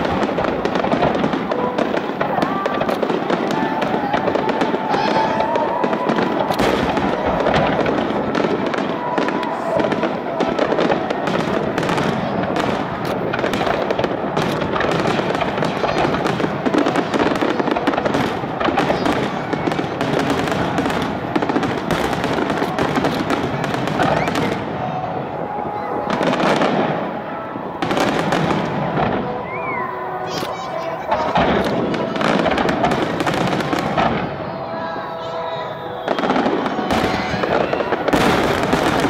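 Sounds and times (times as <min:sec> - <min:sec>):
fireworks bangs and crackling: 0:00.0 - 0:39.0.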